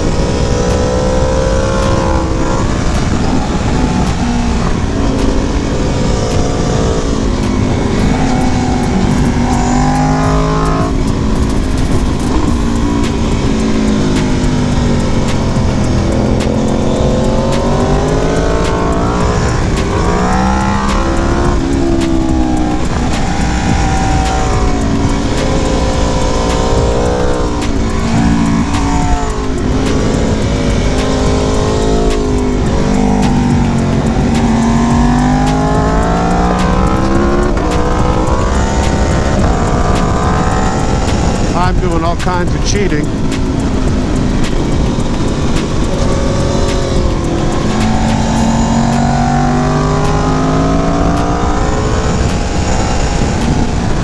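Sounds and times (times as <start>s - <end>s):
motorcycle engine revving: 0.0s - 54.0s
wind rumble: 0.0s - 54.0s.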